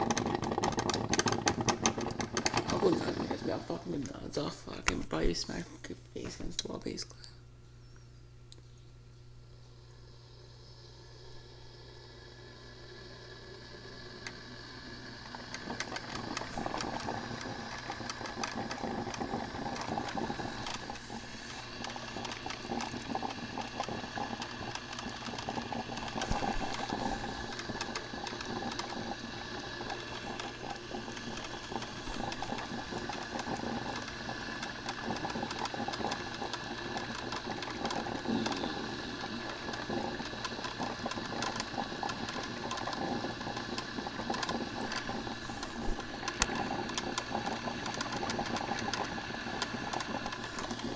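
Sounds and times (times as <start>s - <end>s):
coffee maker gurgling and sputtering: 0.0s - 5.6s, 9.6s - 50.9s.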